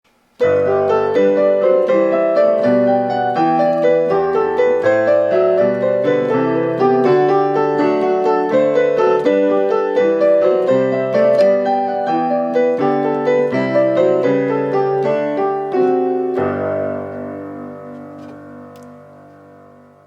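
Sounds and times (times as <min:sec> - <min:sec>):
piano music: 0:00.3 - 0:20.0.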